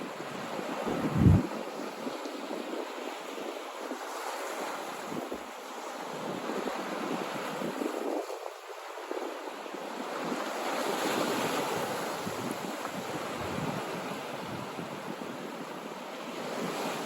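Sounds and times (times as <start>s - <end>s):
sea waves washing in: 0.0s - 17.0s
wind on microphone: 0.0s - 17.0s.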